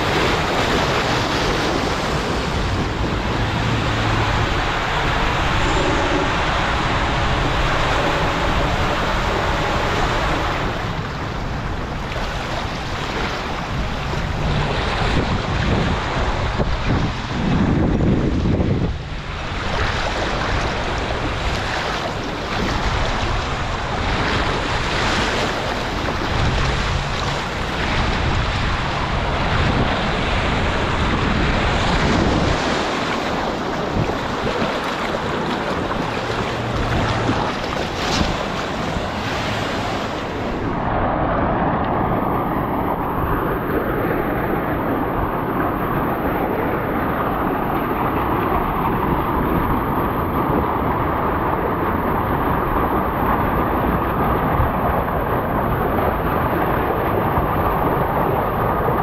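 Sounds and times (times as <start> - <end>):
water rushing and splashing: 0.0 - 59.0
wind on microphone: 0.0 - 59.0.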